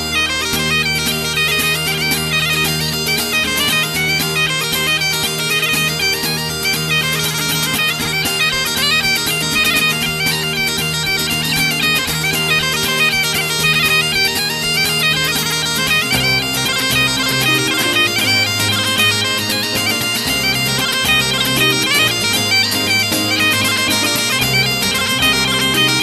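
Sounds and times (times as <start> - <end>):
bagpipe music: 0.0 - 26.0.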